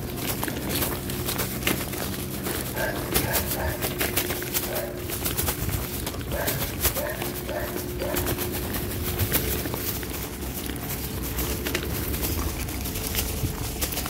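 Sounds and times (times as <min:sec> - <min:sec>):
footsteps on rough ground: 0:00.0 - 0:14.0.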